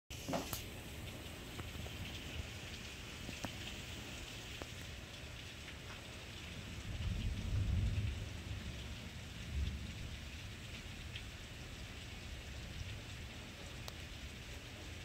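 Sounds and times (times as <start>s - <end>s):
raindrops ticking close by: 0.1s - 15.0s
steady heavy rain: 0.1s - 15.0s.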